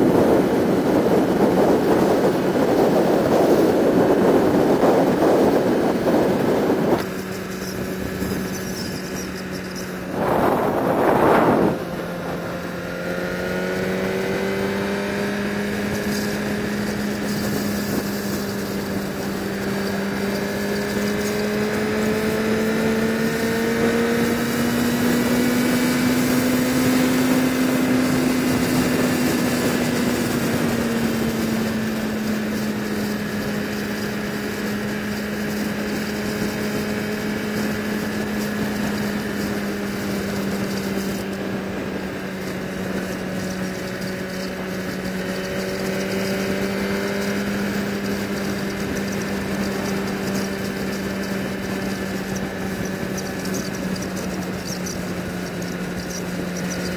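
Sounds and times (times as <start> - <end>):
motorcycle engine cruising: 0.0 - 56.9
wind rush on microphone: 0.0 - 56.9.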